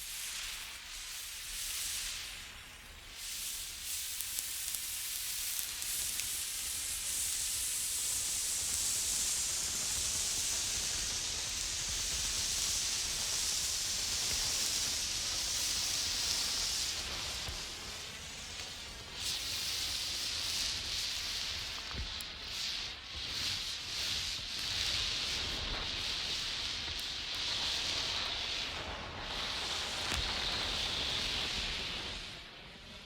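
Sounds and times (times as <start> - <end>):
flare burning with high hiss: 0.0 - 33.0
small crackles: 0.1 - 33.0.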